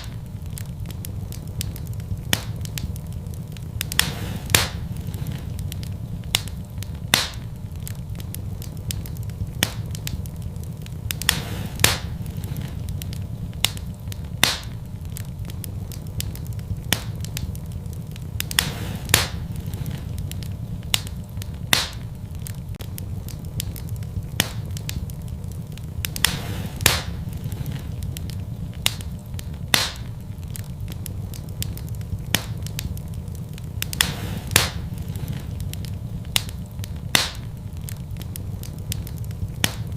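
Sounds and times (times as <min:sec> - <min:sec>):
fire crackling and popping: 0:00.0 - 0:39.9
low rumble: 0:00.0 - 0:39.9.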